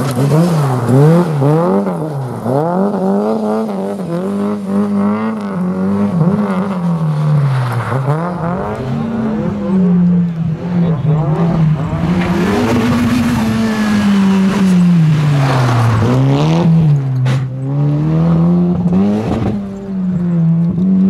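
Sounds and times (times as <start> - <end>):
car engine revving hard: 0.0 - 21.0.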